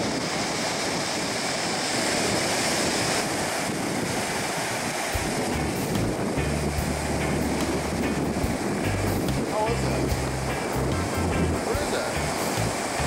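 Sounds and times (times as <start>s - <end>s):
ocean surf on sandy beach: 0.0s - 13.0s
wind on microphone: 0.0s - 13.0s.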